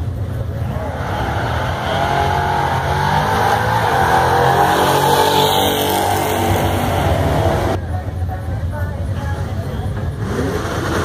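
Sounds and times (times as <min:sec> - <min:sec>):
drag racing cars accelerating: 0:00.0 - 0:07.8, 0:09.9 - 0:11.0.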